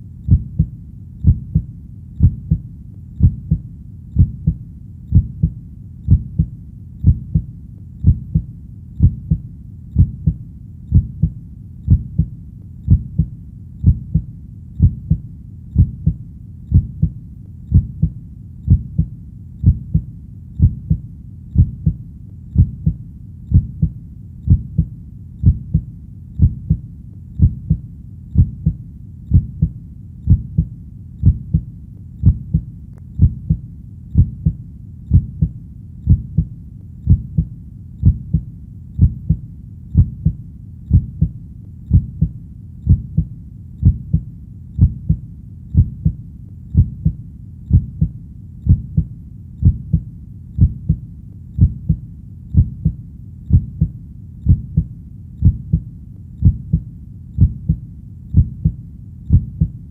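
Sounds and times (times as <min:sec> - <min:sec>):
heartbeat thumps: 0:00.3 - 0:59.9.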